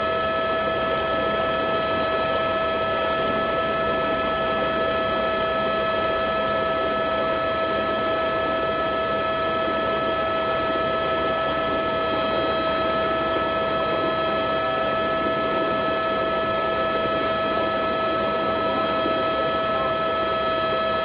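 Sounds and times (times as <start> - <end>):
machine high whine: 0.0 - 21.0
rushing machine drone: 0.0 - 21.0.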